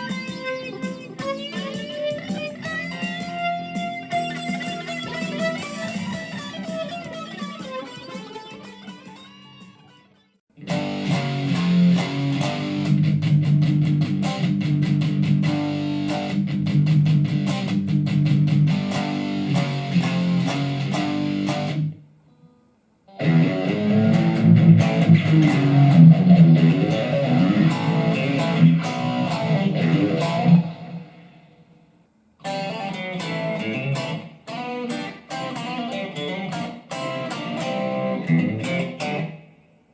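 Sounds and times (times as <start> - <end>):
electric guitar through amp: 0.0 - 39.7.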